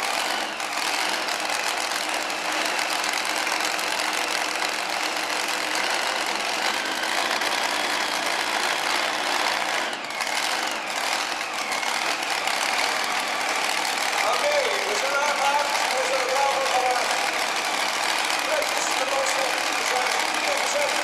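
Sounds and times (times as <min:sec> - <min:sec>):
supercharged engine idling: 0:00.0 - 0:21.0.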